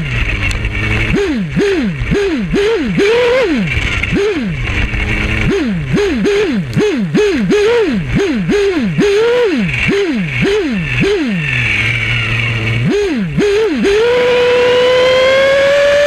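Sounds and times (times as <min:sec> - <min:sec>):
nitro engine revving: 0:00.0 - 0:16.0.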